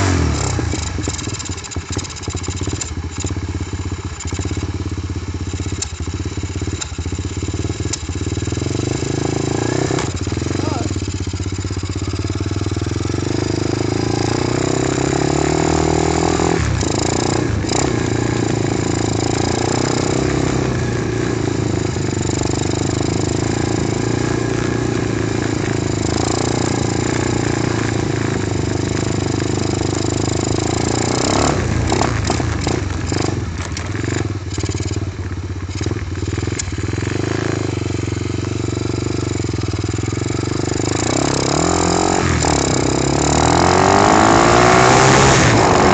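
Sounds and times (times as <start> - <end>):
dirt bike engine idling: 0.0 - 43.4.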